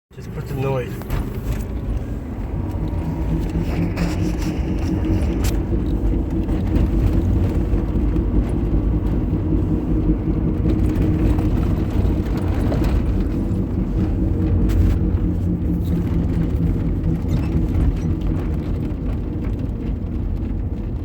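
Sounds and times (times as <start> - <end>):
car driving: 0.1 - 21.0.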